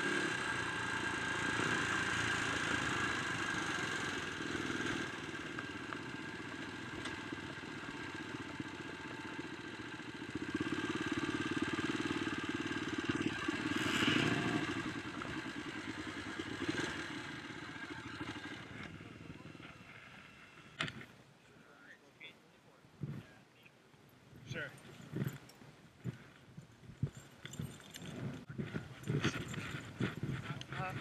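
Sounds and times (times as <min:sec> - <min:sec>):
dirt bike engine running: 0:00.0 - 0:21.1, 0:26.0 - 0:31.0.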